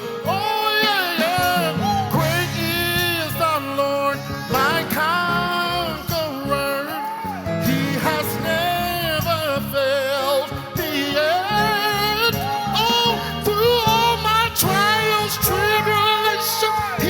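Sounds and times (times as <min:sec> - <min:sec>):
band accompaniment: 0:00.0 - 0:17.0
singers with vibrato: 0:00.0 - 0:17.0.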